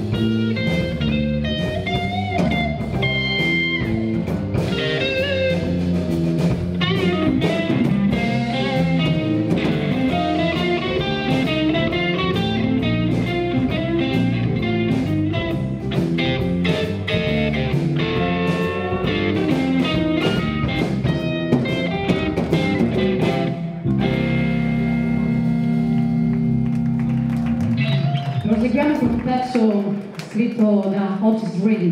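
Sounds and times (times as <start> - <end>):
electric guitar lead lines: 0.0 - 29.3
blues-rock band playing: 0.0 - 30.1.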